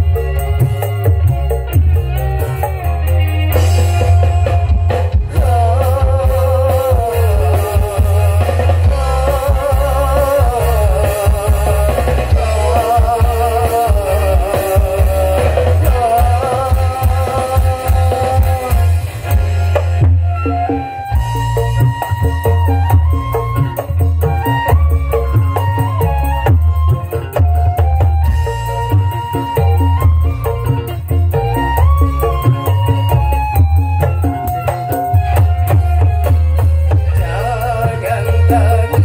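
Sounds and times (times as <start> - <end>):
loud music with heavy bass: 0.0 - 39.0.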